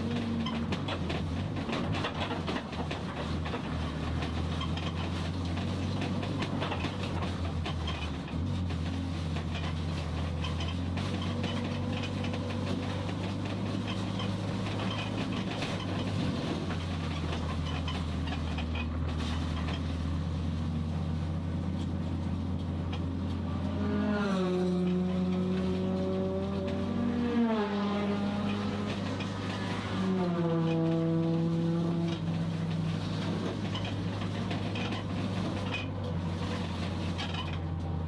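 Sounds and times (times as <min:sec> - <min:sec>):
race car engine from inside cabin: 0:00.0 - 0:38.0.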